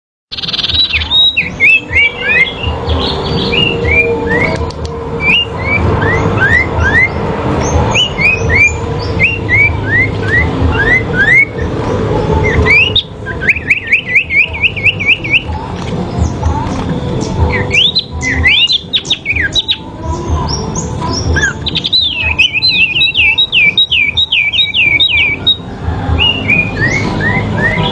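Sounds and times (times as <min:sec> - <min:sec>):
songbirds whistling: 0:00.3 - 0:27.9.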